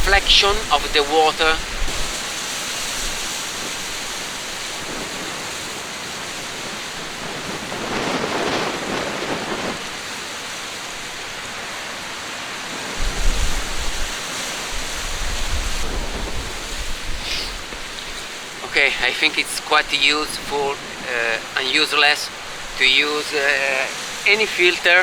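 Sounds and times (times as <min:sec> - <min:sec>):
surf and sea spray hissing: 0:00.0 - 0:25.0
water surging: 0:00.0 - 0:25.0
wind buffeting microphone: 0:00.0 - 0:25.0.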